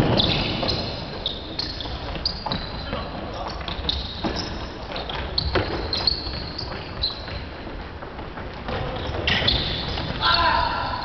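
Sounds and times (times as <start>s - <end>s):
shoes squeaking on court floor: 0.0s - 11.0s.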